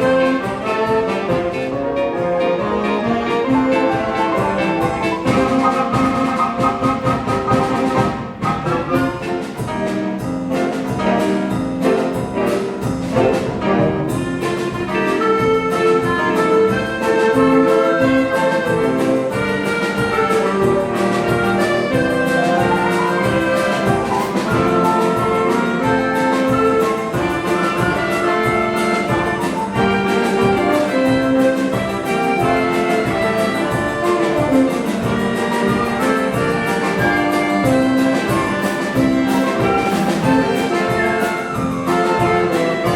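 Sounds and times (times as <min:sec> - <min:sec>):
brass band playing: 0:00.0 - 0:42.9.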